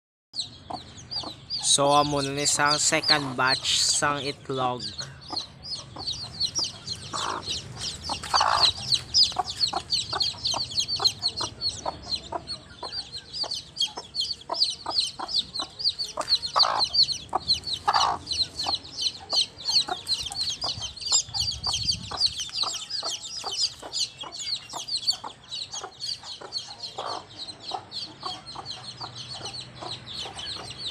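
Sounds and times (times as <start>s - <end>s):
chicks peeping: 0.4s - 30.9s
hen clucking: 0.4s - 30.9s.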